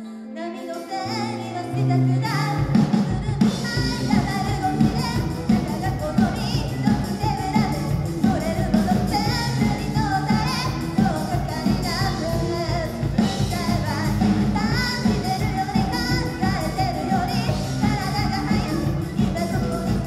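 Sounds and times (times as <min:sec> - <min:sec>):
woman singing: 0:00.0 - 0:20.0
live rock band playing: 0:00.6 - 0:20.0.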